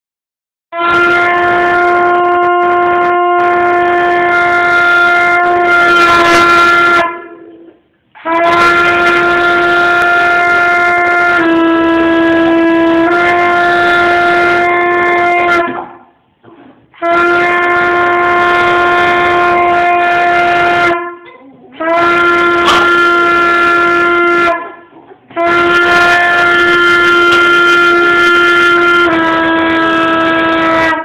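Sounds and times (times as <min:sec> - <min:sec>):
trumpet long notes: 0:00.7 - 0:16.2, 0:16.9 - 0:31.0.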